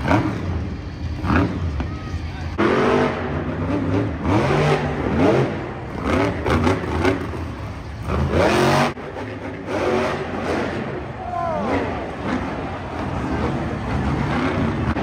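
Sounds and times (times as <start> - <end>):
truck engine revving hard: 0.0 - 1.8, 2.6 - 15.0.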